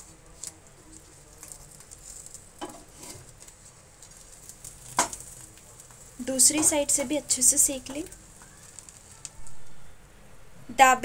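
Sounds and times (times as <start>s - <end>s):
faint sizzle: 0.0s - 11.0s
spatula scraping and tapping pan: 0.4s - 9.4s.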